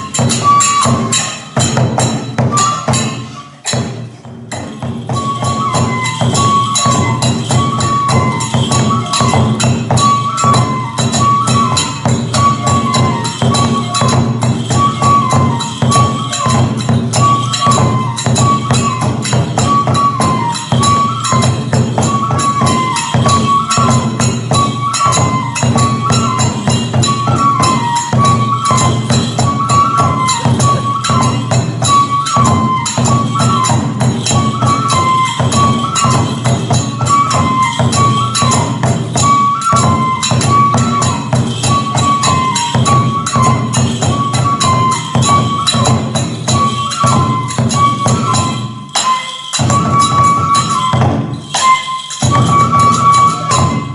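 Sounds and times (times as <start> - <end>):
bamboo flute: 0.0 - 53.9
drum beat: 0.0 - 53.9
small hand cymbals: 0.0 - 53.9.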